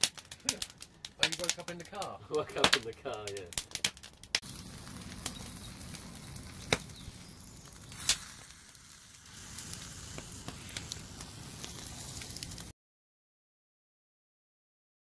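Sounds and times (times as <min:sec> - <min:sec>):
loud fire pops: 0:00.0 - 0:12.7
wood fire crackling: 0:00.0 - 0:12.7.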